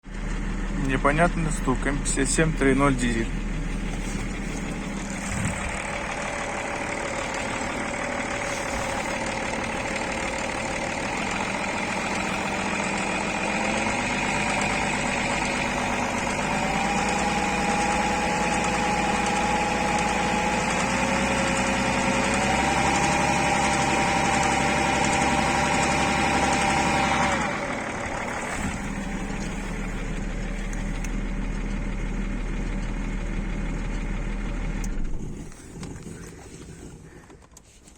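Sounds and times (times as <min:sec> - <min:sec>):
engine knocking: 0:00.0 - 0:37.7
diesel engine idling: 0:00.0 - 0:37.9.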